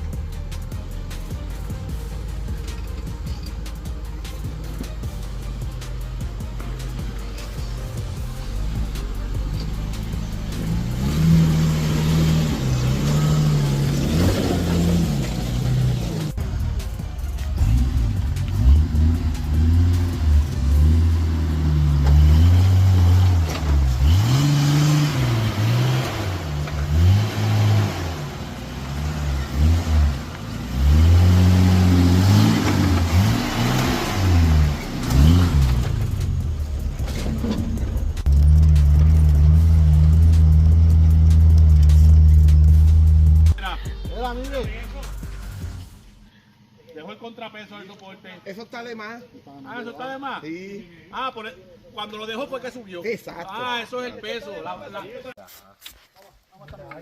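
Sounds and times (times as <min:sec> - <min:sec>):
engine revving: 0:00.0 - 0:46.2.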